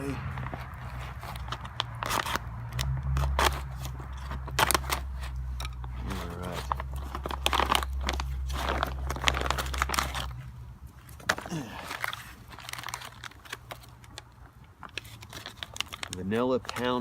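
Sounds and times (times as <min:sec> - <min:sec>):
plastic pouch crinkling: 0:00.5 - 0:17.0.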